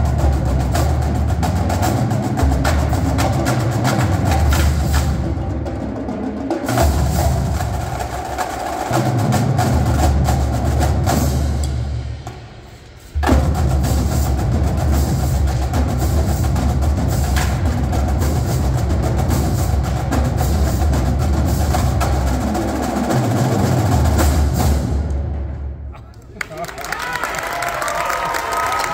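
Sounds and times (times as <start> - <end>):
marching drumline: 0.0 - 26.0.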